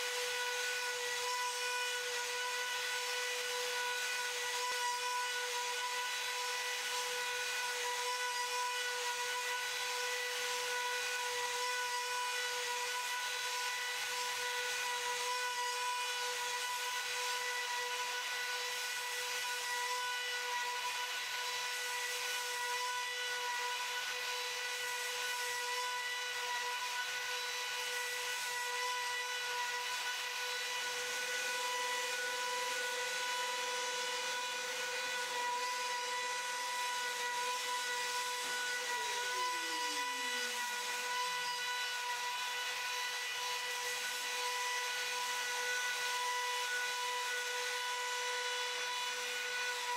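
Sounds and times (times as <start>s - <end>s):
hiss of cutting: 0.0s - 49.9s
router high-pitched whine: 0.0s - 49.9s.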